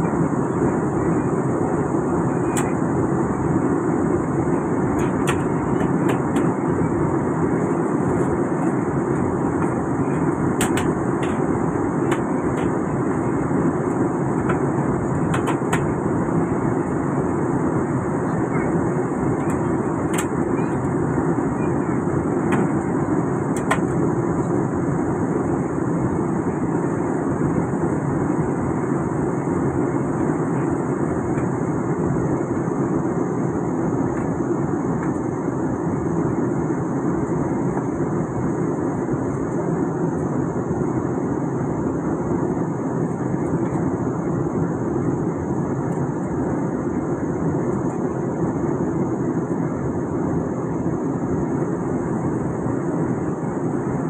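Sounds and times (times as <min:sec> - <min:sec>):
jet engines rushing: 0:00.0 - 0:54.0.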